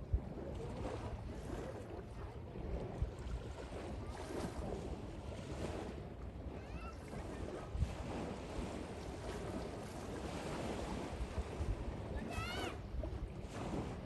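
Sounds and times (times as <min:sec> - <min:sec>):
sea waves washing: 0:00.0 - 0:14.0
wind buffeting microphone: 0:00.0 - 0:14.0.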